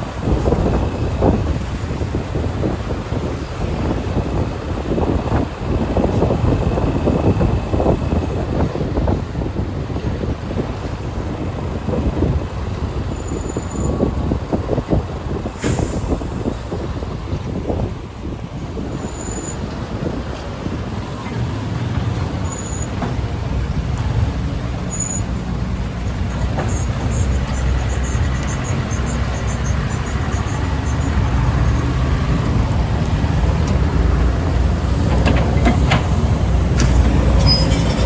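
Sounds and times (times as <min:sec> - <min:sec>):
road rumble: 0:00.0 - 0:38.0.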